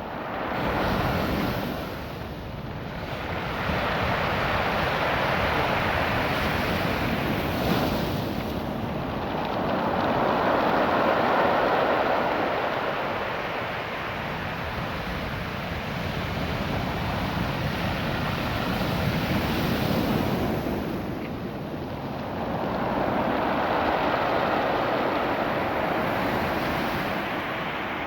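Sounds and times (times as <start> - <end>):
surf washing over cobbles: 3.0 - 28.0.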